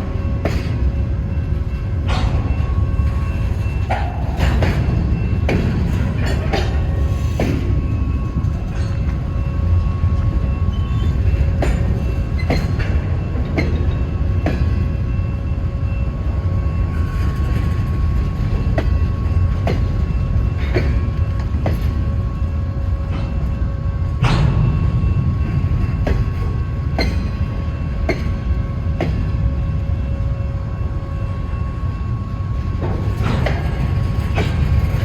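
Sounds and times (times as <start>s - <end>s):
train cars rumbling past: 0.0s - 35.0s.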